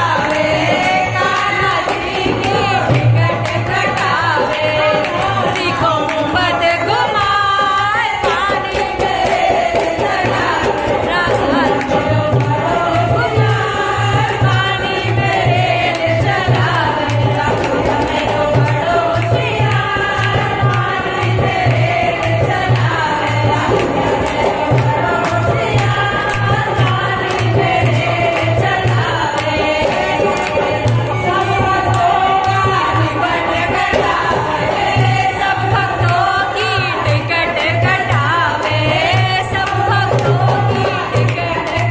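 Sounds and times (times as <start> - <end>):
hand-clapping: 0.0 - 41.9
women singing folk song: 0.0 - 41.9.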